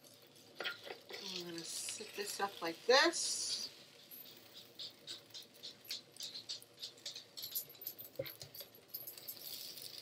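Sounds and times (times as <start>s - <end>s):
utensils clicking and scraping: 0.1s - 10.0s.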